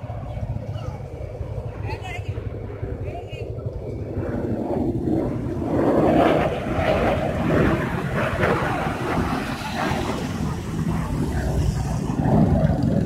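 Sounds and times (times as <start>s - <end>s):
distant jet engine rumble: 0.0s - 13.0s
wind buffeting microphone: 0.0s - 13.0s.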